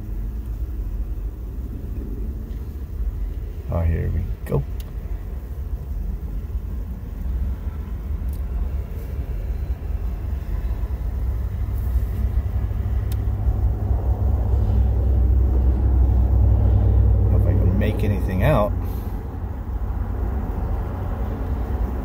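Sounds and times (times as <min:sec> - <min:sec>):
vehicle idling from inside cabin: 0:00.0 - 0:22.0.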